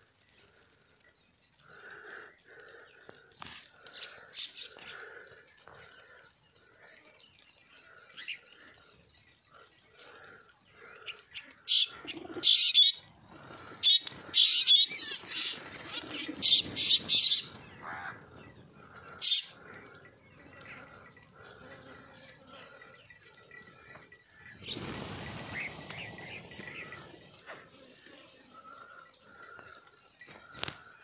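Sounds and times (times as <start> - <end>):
small wild birds chirping: 0.0 - 31.0.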